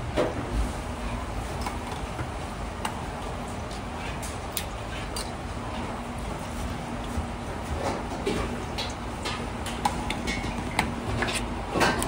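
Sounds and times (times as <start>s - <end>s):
kitchen background hum: 0.0s - 12.0s.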